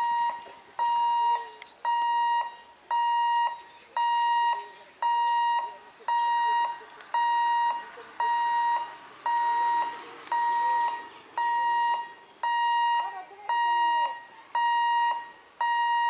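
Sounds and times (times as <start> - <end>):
level crossing warning buzzer: 0.0 - 16.0.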